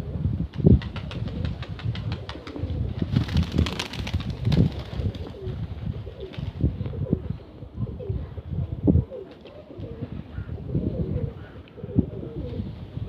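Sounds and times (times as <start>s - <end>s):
wind buffeting microphone: 0.0s - 13.0s
pigeons cooing: 1.0s - 3.7s, 4.9s - 13.0s.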